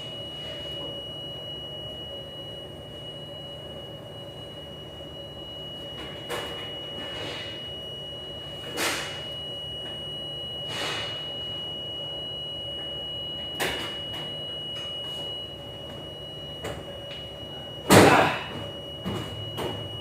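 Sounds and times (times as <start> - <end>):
dishwashing machinery humming: 0.0 - 20.0
high whine: 0.0 - 20.0.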